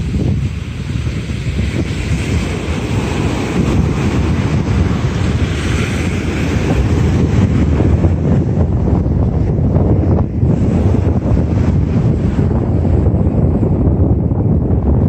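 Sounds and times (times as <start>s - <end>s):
waves breaking on beach: 0.0s - 13.4s
wind buffeting microphone: 0.0s - 15.0s.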